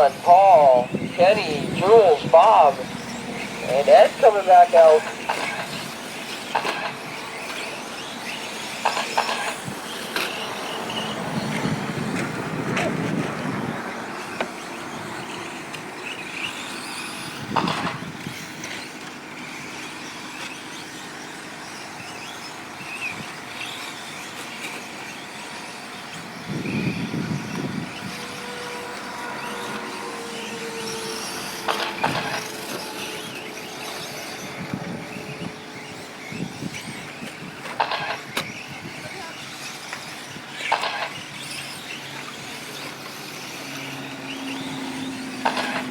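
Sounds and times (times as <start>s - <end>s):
electric motor whine: 0.0s - 45.9s.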